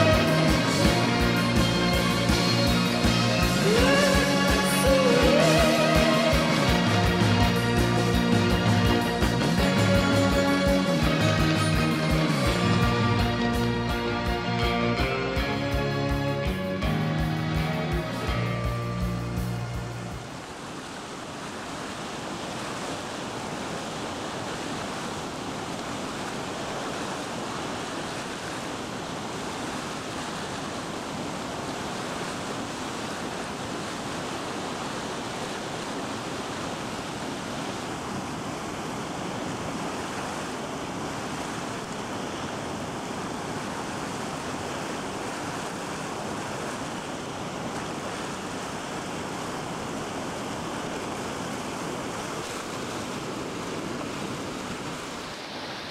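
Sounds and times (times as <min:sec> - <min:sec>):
river rapids rushing: 0:00.0 - 0:55.9.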